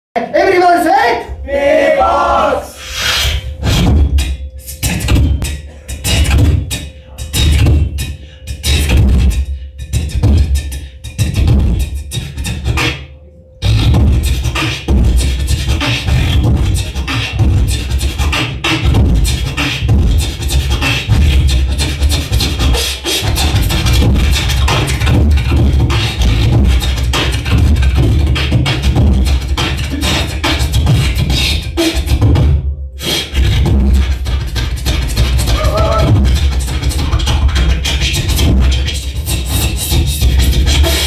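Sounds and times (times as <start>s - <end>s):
amplified beatboxing: 2.7s - 41.0s
deep bass: 2.8s - 12.9s, 13.6s - 31.4s, 33.4s - 41.0s.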